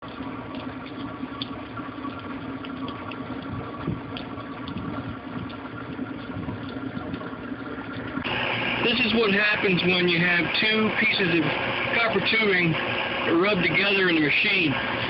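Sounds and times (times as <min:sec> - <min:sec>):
air conditioning hum: 0:00.0 - 0:15.0.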